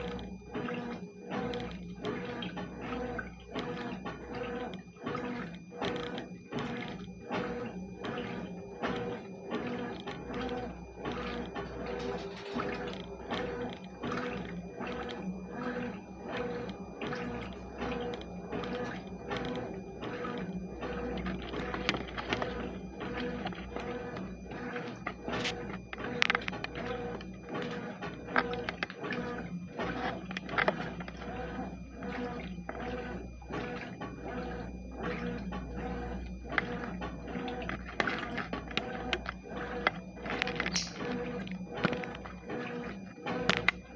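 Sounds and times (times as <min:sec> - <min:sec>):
washing machine motor humming: 0:00.0 - 0:43.9
water sloshing and splashing: 0:00.0 - 0:43.9.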